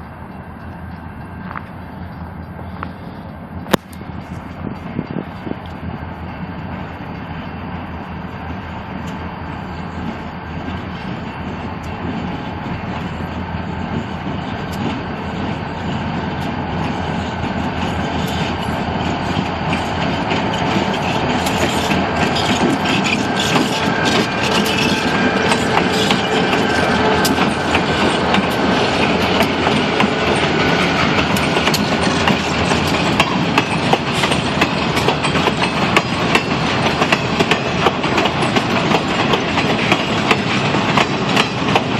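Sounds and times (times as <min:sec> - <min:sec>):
diesel locomotives approaching: 0:00.0 - 0:41.9
train wheels clacking on rail joints: 0:07.8 - 0:41.9.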